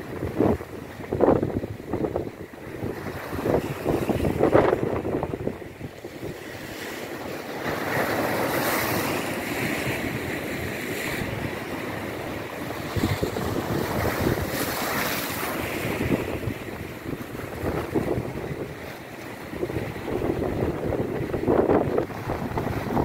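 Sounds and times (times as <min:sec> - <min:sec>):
sea waves breaking: 0:00.0 - 0:23.0
wind buffeting microphone: 0:00.0 - 0:23.0.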